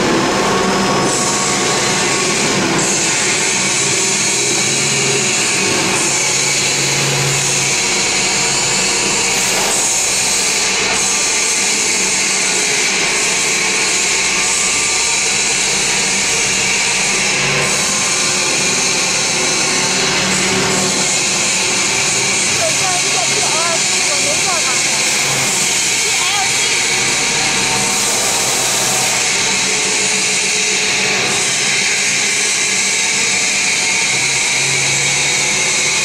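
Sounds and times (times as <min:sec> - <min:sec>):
loud steady hiss: 0:00.0 - 0:36.0
motors and pumps humming: 0:00.0 - 0:36.0.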